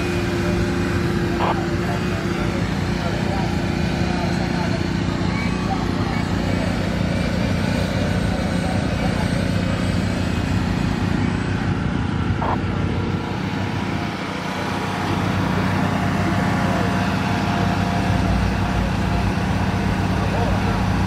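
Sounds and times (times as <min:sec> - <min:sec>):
engine running steadily: 0:00.0 - 0:21.0
outdoor noise: 0:00.0 - 0:21.0.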